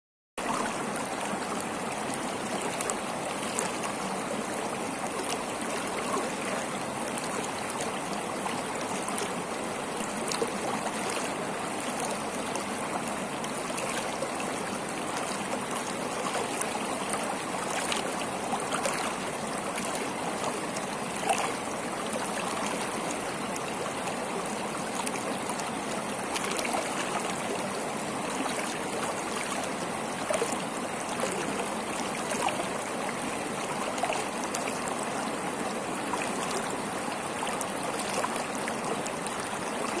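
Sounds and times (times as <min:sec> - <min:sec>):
river rushing over rocks: 0:00.4 - 0:40.0
water splashes: 0:00.4 - 0:40.0.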